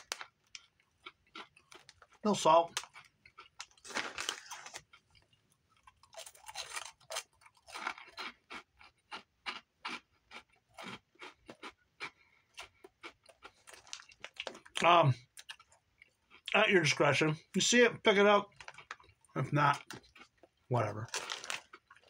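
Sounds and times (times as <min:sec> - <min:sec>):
crunchy snacks being chewed: 0:00.0 - 0:17.0, 0:18.4 - 0:22.0.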